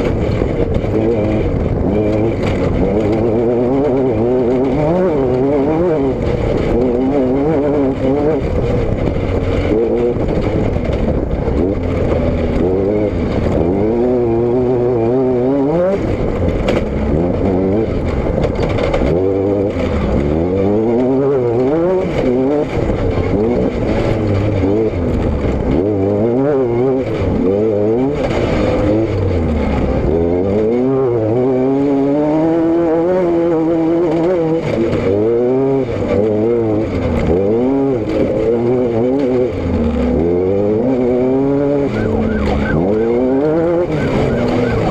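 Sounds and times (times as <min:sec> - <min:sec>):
vehicle engine revving: 0:00.0 - 0:44.9.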